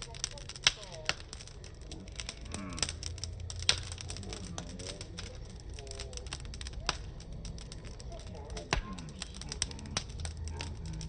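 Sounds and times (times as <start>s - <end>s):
low steady rumble: 0.0s - 11.0s
wood fire crackling: 0.0s - 11.0s.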